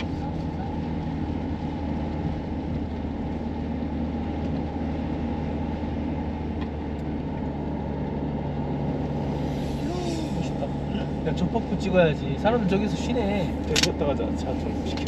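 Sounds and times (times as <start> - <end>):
tyre and road noise: 0.0 - 15.0
van engine running: 0.0 - 15.0.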